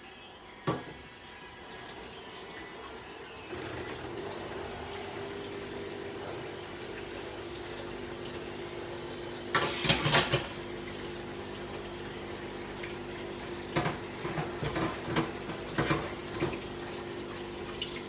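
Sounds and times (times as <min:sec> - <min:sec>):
kitchen water running: 0:00.7 - 0:18.0.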